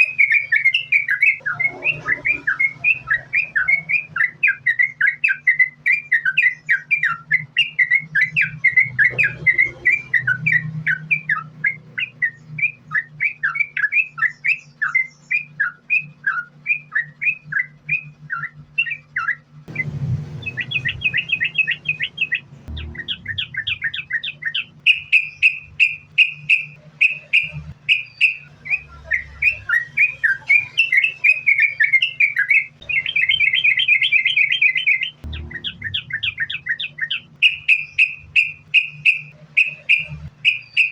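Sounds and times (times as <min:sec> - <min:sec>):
bird chirping and trilling: 0:00.0 - 0:40.9
faint low hum: 0:00.0 - 0:40.9.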